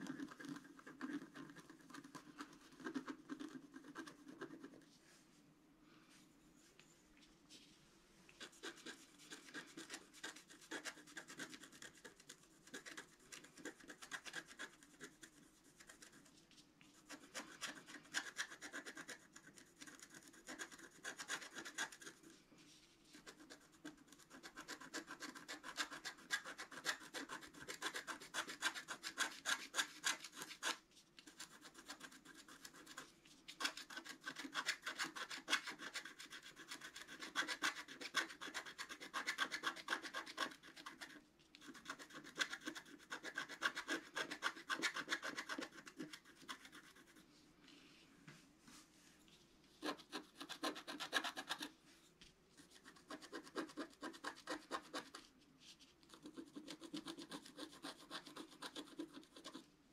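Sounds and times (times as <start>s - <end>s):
stylus scratching paper: 0.0s - 4.8s, 8.4s - 47.2s, 49.8s - 51.7s, 52.6s - 59.7s.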